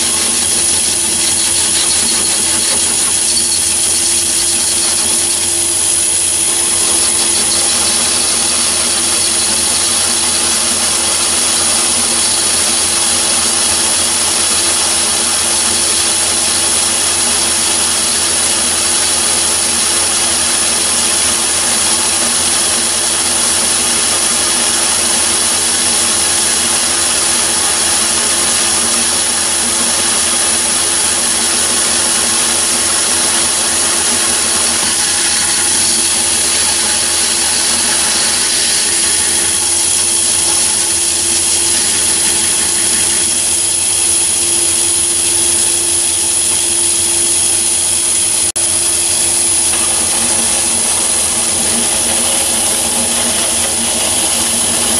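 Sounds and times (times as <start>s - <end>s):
lathe cutting metal: 0.0s - 54.9s.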